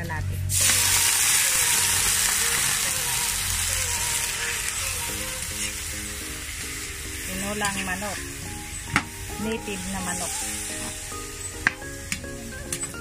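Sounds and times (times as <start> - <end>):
chicken sizzling in a wok: 0.5 - 12.1.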